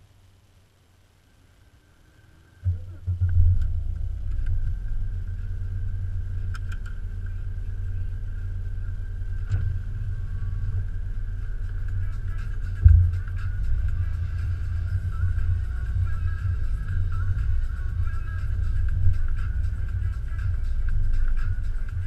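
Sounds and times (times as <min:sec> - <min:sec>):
car engine starting and idling: 0:00.2 - 0:22.0.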